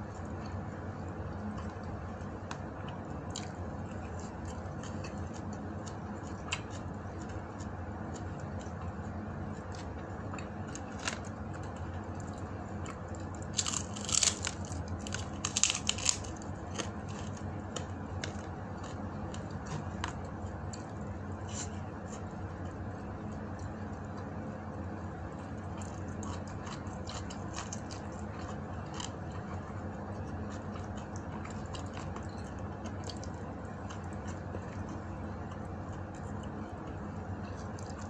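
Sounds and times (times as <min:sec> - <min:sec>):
crunching food: 0:00.0 - 0:24.5, 0:25.2 - 0:38.0.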